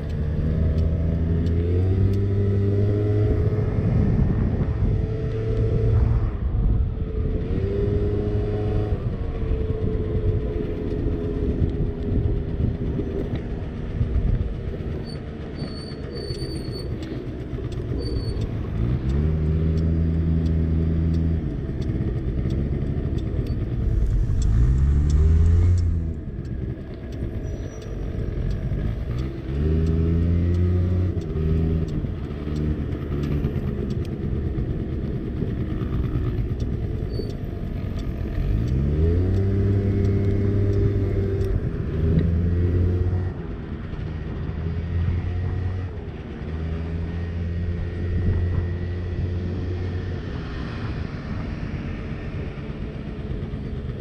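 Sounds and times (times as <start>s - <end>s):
road noise rushing: 0.0s - 54.0s.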